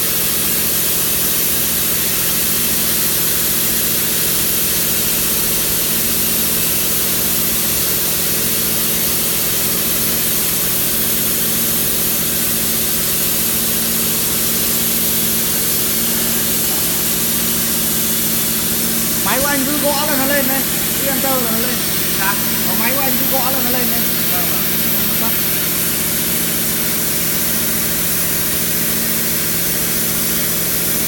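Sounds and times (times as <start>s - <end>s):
plasma cutter hissing: 4.6s - 31.0s
steady machine hum: 4.6s - 31.0s.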